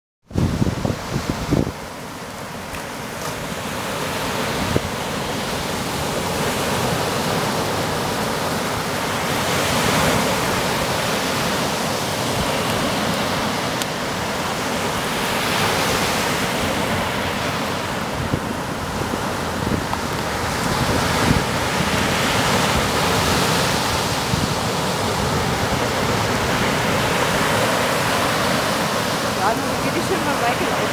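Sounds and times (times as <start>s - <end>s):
wind rumbling on microphone: 0.2s - 30.9s
waves breaking on sandy beach: 0.3s - 30.9s.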